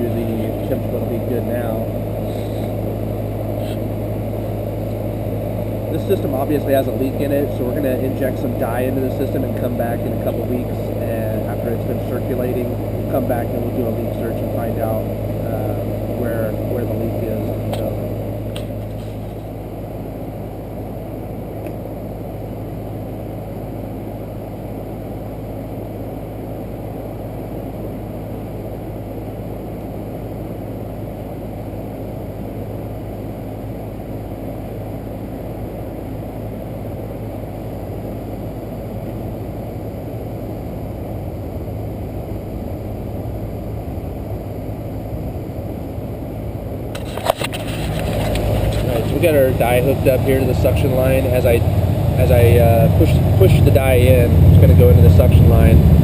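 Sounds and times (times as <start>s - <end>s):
compressor hum: 0.0s - 56.0s
condenser fan rushing: 0.0s - 56.0s.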